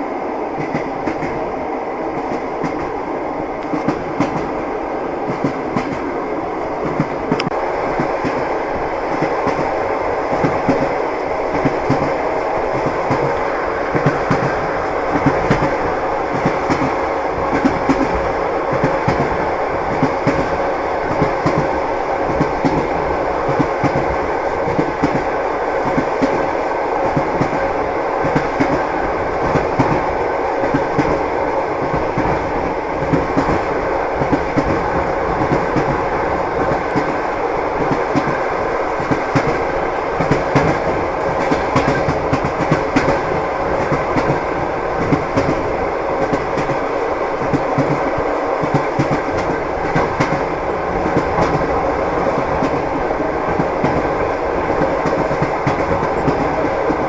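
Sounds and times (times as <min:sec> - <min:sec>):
rolling rumble of moving train: 0:00.0 - 0:57.0
train wheels clicking over rail joints: 0:03.6 - 0:06.2, 0:06.8 - 0:57.0.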